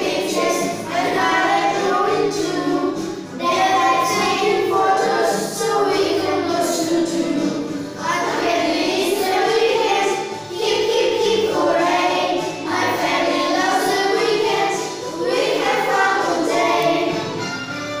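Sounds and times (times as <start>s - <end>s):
children singing: 0.0s - 18.0s.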